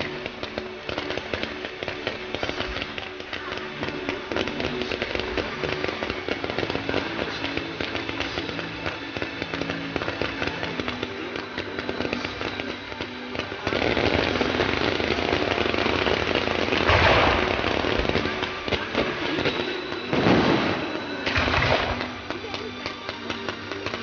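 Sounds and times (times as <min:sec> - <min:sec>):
fireworks crackling and bursting: 0:00.0 - 0:24.0.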